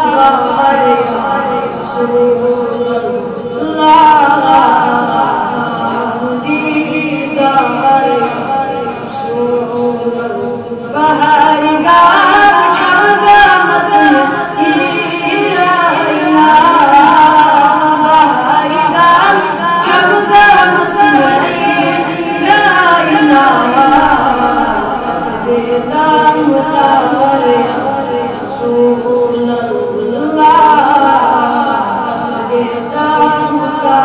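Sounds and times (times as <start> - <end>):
boy singing unaccompanied: 0.0 - 34.0.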